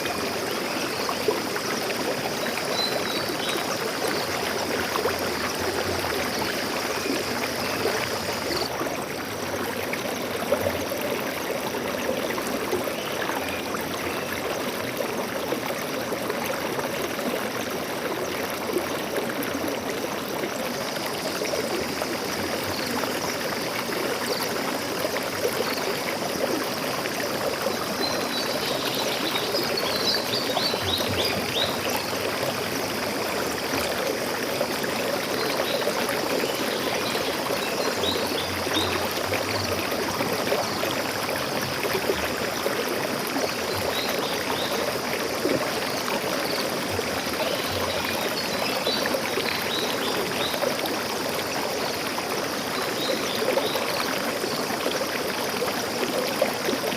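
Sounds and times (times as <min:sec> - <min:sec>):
stream water trickling: 0:00.0 - 0:56.9.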